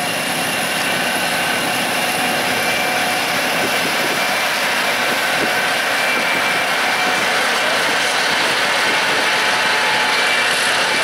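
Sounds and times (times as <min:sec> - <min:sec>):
heavy farm machinery running: 0:00.0 - 0:11.0.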